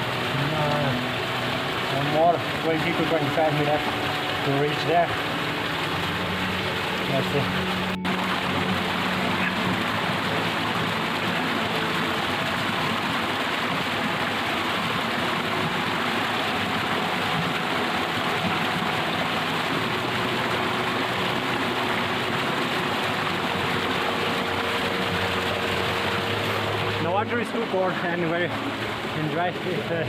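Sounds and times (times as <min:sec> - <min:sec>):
mountain water rushing: 0:00.0 - 0:30.0.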